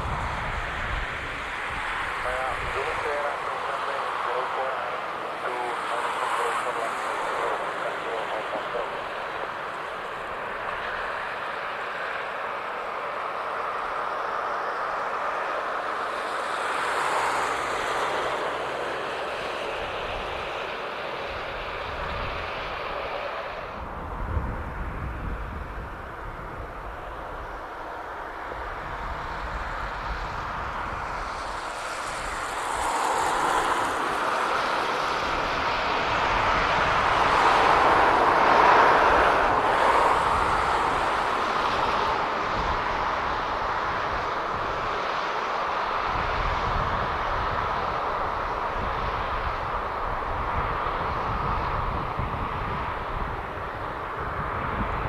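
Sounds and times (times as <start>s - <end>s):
jet engines on departure: 0.0s - 55.0s.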